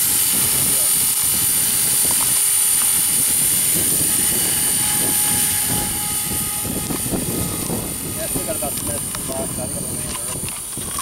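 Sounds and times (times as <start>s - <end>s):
toy helicopter rotor whine: 0.0s - 11.0s.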